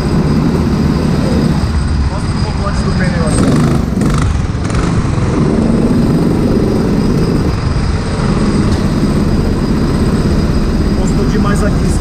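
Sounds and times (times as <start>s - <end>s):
racing kart engines droning: 0.0s - 12.0s.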